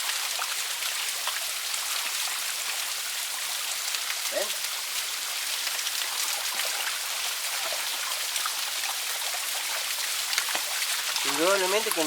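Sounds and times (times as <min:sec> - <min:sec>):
small waterfall splashing: 0:00.0 - 0:12.0
water drips and splashes: 0:00.0 - 0:12.0.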